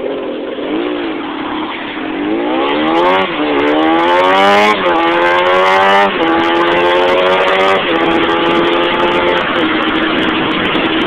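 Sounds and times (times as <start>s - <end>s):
car engine accelerating hard: 0.0s - 11.0s
road noise: 0.0s - 11.0s.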